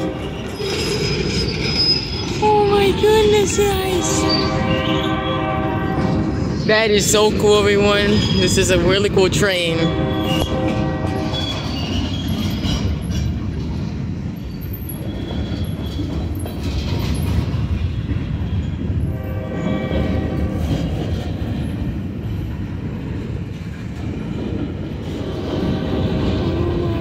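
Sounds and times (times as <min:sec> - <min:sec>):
rumble of wheels on rail: 0:00.0 - 0:27.0.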